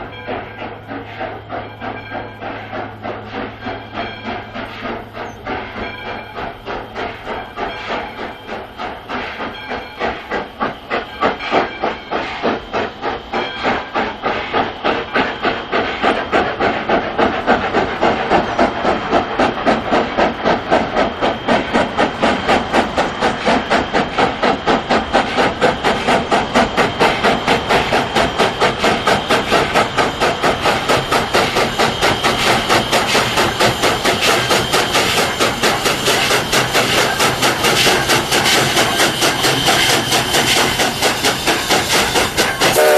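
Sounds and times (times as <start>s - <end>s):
steam locomotive chuffing: 0.0s - 42.9s.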